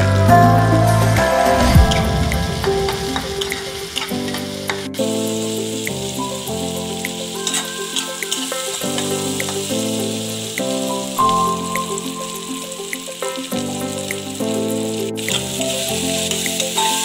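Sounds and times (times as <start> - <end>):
background music: 0.0 - 17.0
vegetables sizzling in oil: 2.5 - 17.0.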